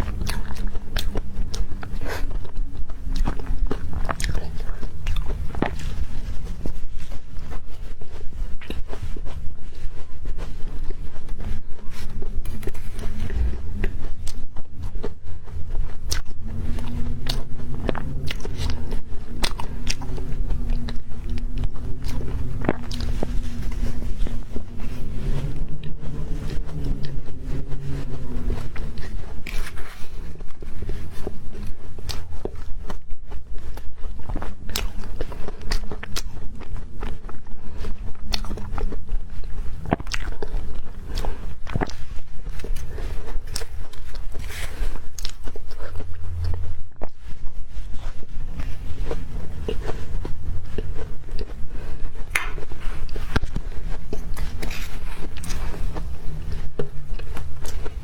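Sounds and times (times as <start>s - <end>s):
crunching and chewing: 0.0s - 58.0s.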